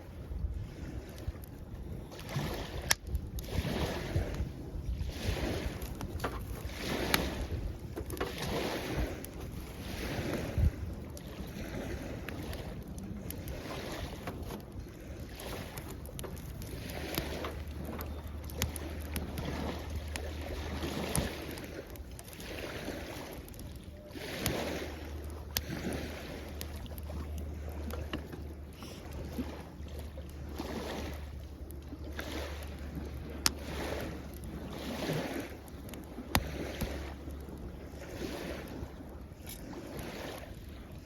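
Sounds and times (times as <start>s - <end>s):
small waves washing onto shore: 0.0s - 41.0s
campfire crackling and popping: 0.3s - 41.0s.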